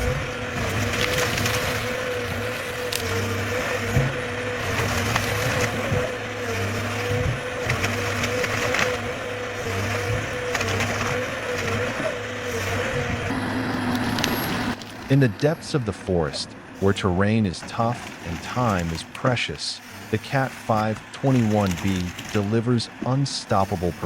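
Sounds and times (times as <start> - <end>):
wood cracking and crunching: 0.0 - 16.7, 19.9 - 22.5
forestry machine engine drone: 0.0 - 24.0.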